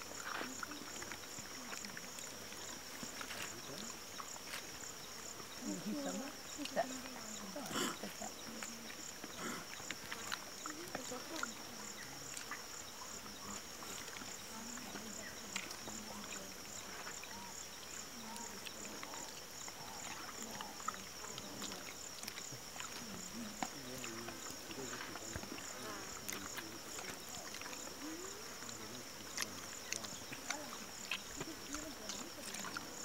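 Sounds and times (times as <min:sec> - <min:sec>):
faint low voices: 0:00.0 - 0:33.0
pulsing insect chorus: 0:00.0 - 0:33.0.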